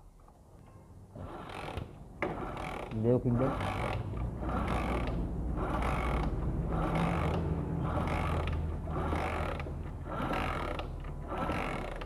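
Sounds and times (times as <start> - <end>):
steady low hum: 0.0 - 12.0
engine kick-start ratcheting: 1.2 - 12.0.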